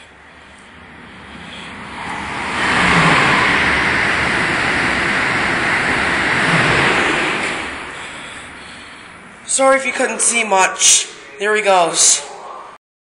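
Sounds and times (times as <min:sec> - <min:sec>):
train passing on rails: 0:00.0 - 0:12.7.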